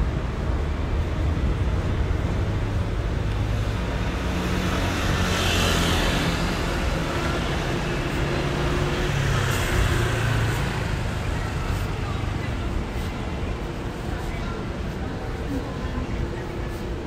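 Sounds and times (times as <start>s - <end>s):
vehicle engines rumbling: 0.0s - 17.0s
passing vehicle hiss: 0.2s - 17.0s.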